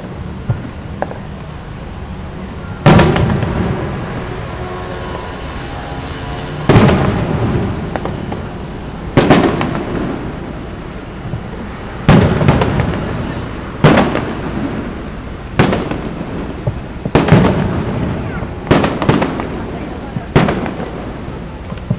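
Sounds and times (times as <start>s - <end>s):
fireworks booming with echo: 0.0s - 21.9s.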